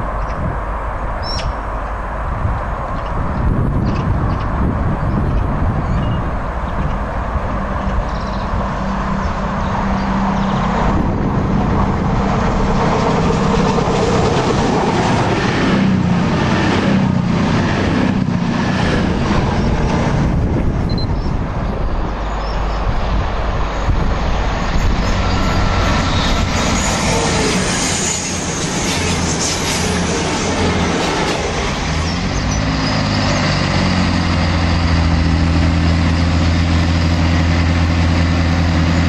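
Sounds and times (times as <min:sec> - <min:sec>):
train engine hum: 0:00.0 - 0:39.0.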